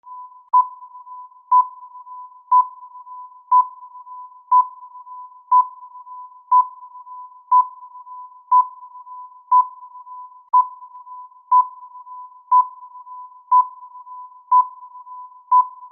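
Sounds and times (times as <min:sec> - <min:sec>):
faint steady tone: 0:00.0 - 0:15.9.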